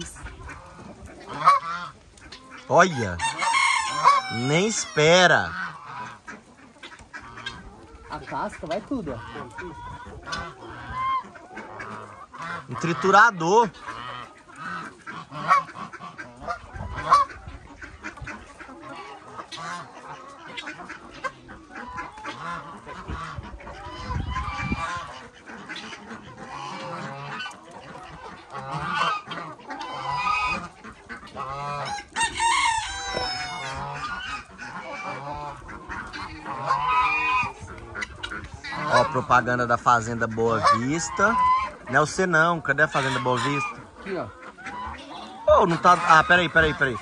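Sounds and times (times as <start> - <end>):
farm fowl calling: 0.0 - 47.0
geese honking: 0.0 - 47.0.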